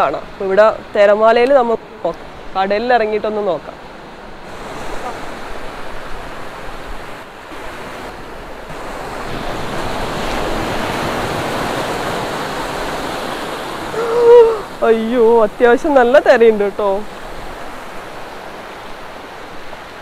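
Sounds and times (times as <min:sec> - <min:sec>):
small waves breaking on sand: 0:00.0 - 0:20.0.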